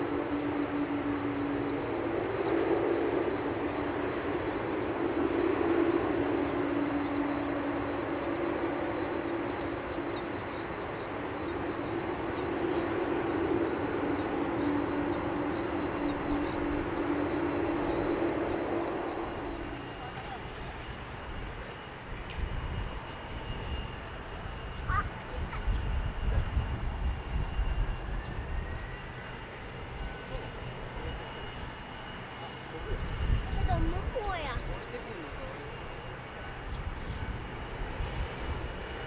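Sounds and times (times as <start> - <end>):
jet engines humming: 0.0 - 39.0.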